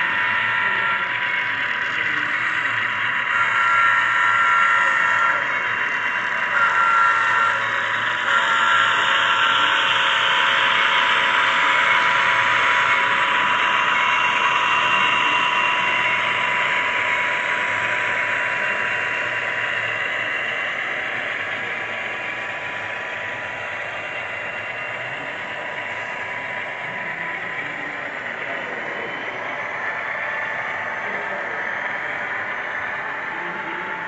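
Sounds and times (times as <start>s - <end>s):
model train running: 0.0s - 34.0s.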